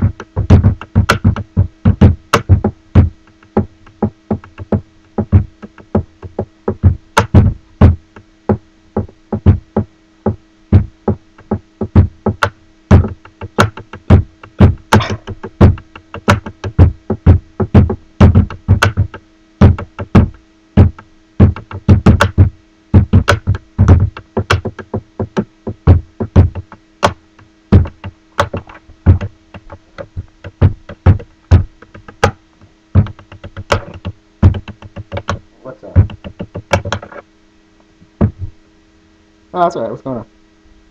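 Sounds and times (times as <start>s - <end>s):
pen drumming on wooden table: 0.0s - 8.0s, 9.0s - 32.4s, 33.0s - 35.4s, 36.0s - 37.2s
faint steady hum: 0.0s - 40.9s.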